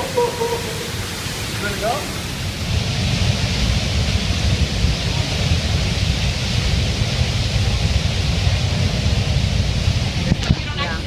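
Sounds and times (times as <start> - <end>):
waterfall roar: 0.0 - 11.0
wind buffeting microphone: 0.0 - 11.0.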